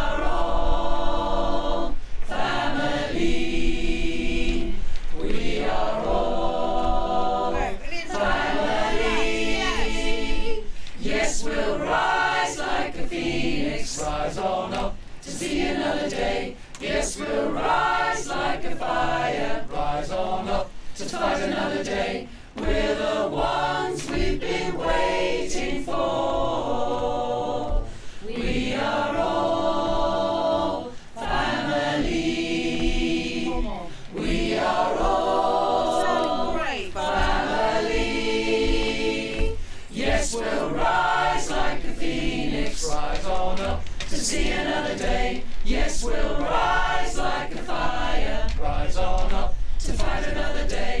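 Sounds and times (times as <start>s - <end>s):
choir singing a chant: 0.0s - 51.0s.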